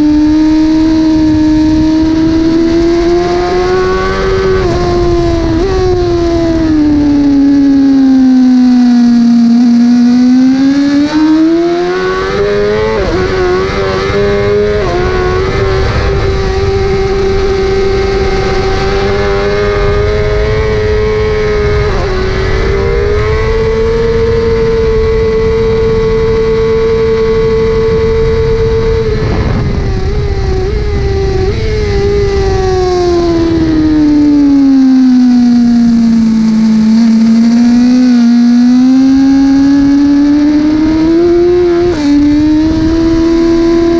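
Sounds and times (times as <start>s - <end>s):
wind rush: 0.0s - 8.7s, 10.6s - 43.9s
superbike engine at speed: 0.0s - 43.9s
throttle blips on downshifts: 0.0s - 43.9s.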